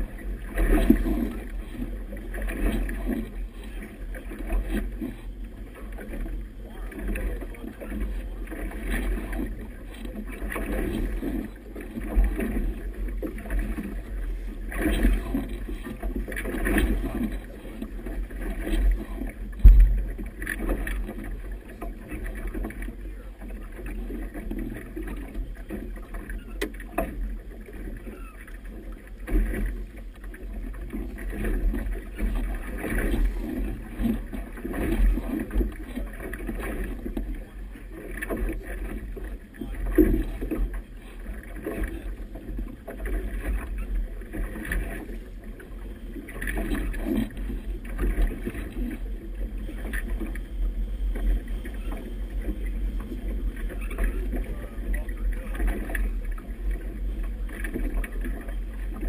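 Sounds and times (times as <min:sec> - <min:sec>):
water slapping against boat hull: 0:00.0 - 0:59.0
wind rumbling on microphone: 0:00.0 - 0:59.0.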